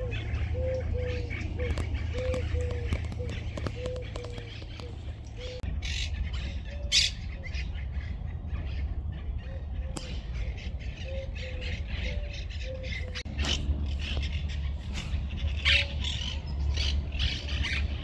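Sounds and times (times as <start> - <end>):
birds squawking: 0.0 - 18.0.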